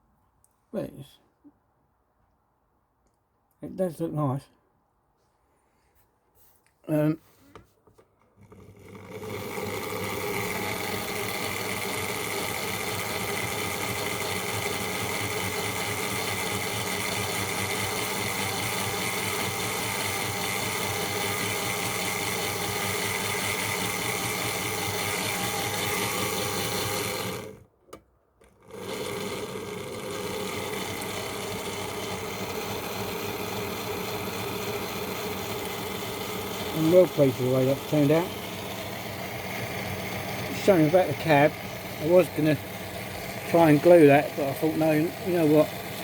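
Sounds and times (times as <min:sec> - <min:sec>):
model train motor whirring: 0:08.4 - 0:27.7, 0:28.4 - 0:46.0.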